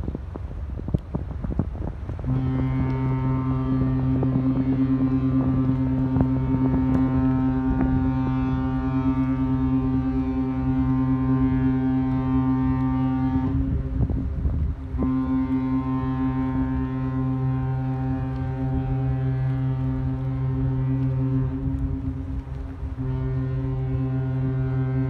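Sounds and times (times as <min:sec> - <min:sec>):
ship engine drone: 0:00.0 - 0:25.0.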